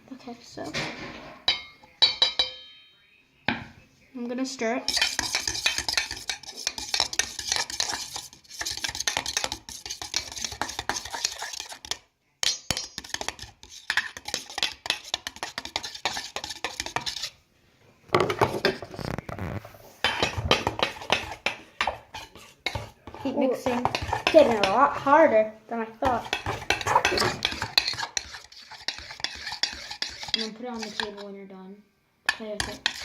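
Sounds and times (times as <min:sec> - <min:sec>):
utensil stirring slime: 0:04.6 - 0:17.4, 0:18.1 - 0:31.4, 0:32.3 - 0:33.0.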